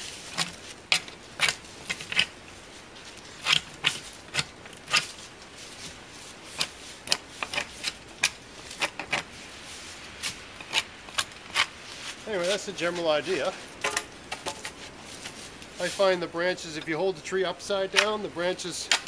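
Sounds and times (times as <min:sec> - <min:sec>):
knife scraping sapling bark: 0:00.0 - 0:16.1, 0:17.9 - 0:18.2.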